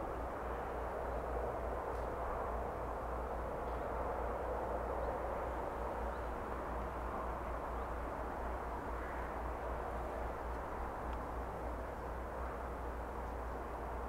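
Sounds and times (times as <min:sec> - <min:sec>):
continuous rushing noise: 0:00.0 - 0:14.0.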